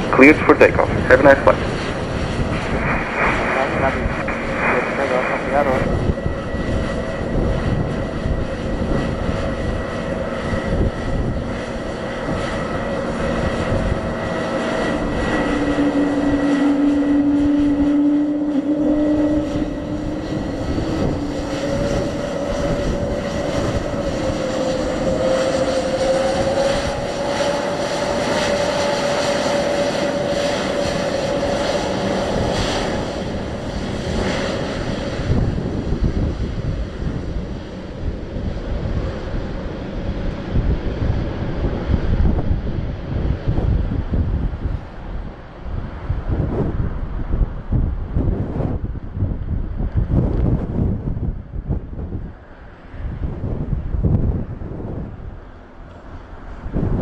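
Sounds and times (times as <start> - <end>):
jet engines at takeoff: 0.0 - 57.0
wind buffeting microphone: 0.0 - 57.0.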